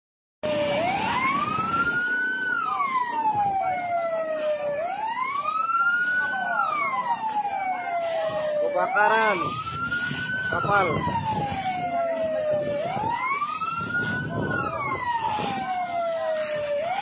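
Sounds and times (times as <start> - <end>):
emergency siren wailing: 0.4 - 17.0
noisy background: 0.4 - 17.0.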